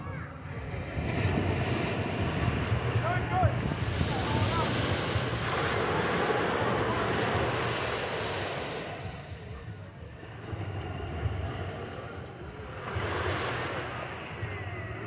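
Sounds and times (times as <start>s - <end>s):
wind on microphone: 0.0s - 15.0s
waves washing up a beach: 0.3s - 15.0s.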